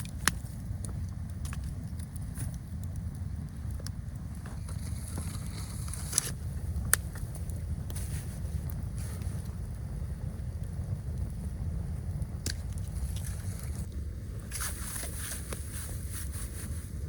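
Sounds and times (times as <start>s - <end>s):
sharp crackles and clicks: 0.0s - 17.0s
wind rumbling on microphone: 0.0s - 17.0s.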